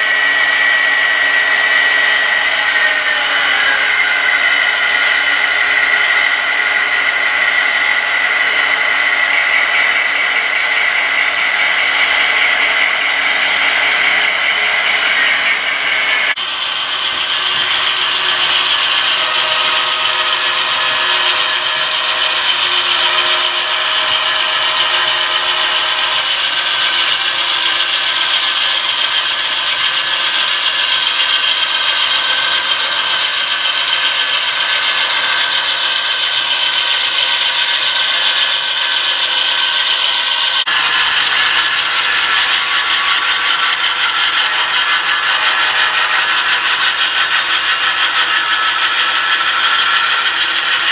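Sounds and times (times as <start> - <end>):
model train running on track: 0.0 - 50.9.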